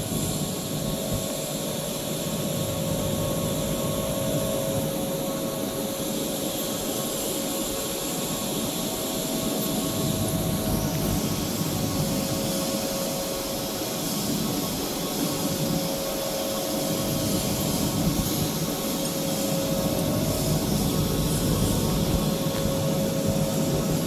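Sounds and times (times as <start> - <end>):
industrial machinery hum and hiss: 0.0 - 24.0.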